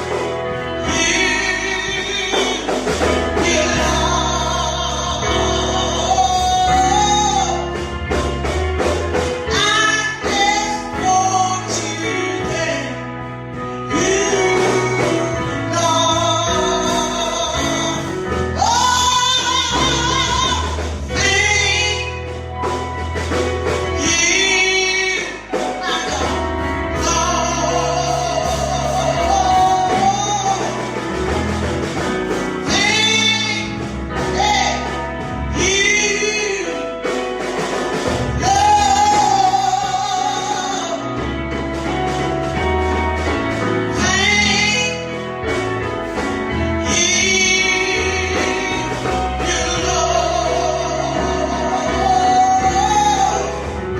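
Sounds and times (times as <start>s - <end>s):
band with bass line: 0.0s - 53.9s
person singing with vibrato: 0.0s - 53.9s.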